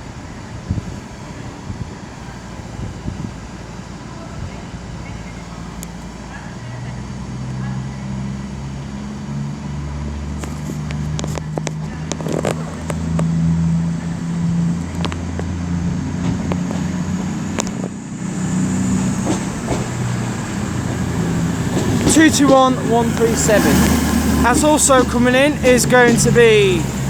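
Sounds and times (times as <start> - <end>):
diesel train engines running: 0.0 - 27.0.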